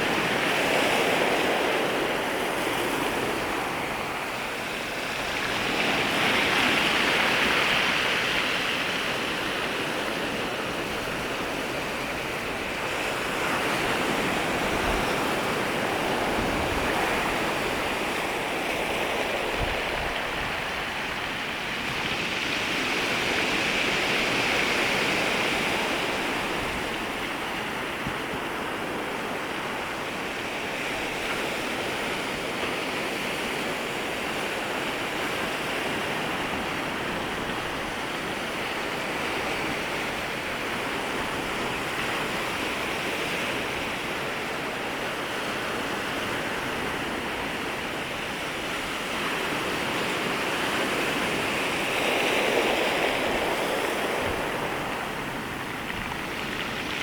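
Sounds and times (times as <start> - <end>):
waves washing at shoreline: 0.0 - 57.0.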